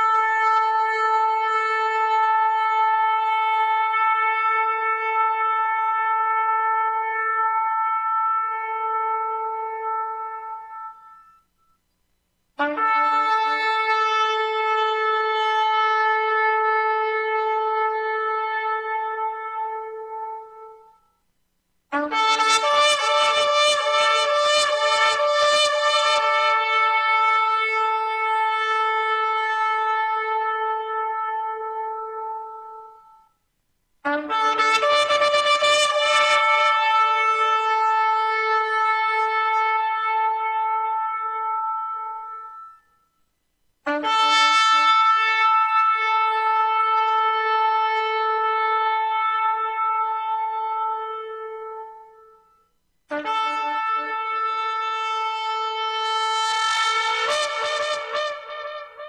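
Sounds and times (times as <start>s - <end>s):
horn blasts: 0.0s - 11.8s, 12.6s - 21.1s, 21.9s - 33.3s, 34.0s - 43.2s, 43.8s - 59.0s.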